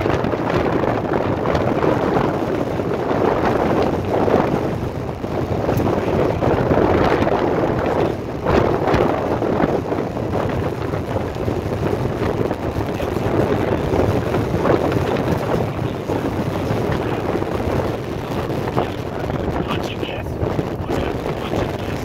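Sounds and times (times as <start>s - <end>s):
vehicle road and wind noise: 0.0s - 22.0s.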